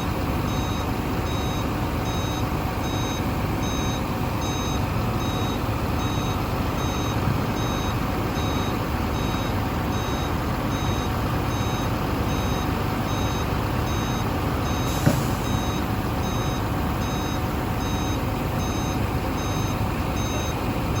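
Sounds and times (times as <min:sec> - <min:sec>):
heavy diesel engine running: 0:00.0 - 0:21.0
truck reversing alarm beeping: 0:00.0 - 0:21.0.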